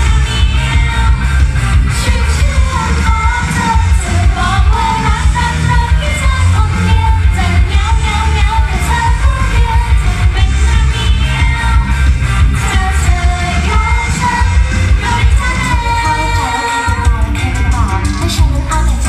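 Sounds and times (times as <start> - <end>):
pop song with female vocals: 0.0 - 19.0
strong bass beat: 0.0 - 19.0.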